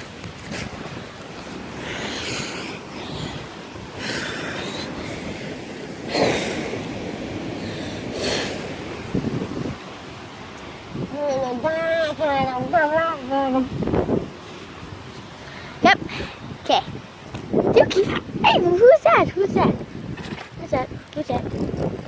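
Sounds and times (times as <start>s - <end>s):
whooshing wind rushes: 0.0s - 22.0s
wind buffeting microphone: 0.0s - 22.0s.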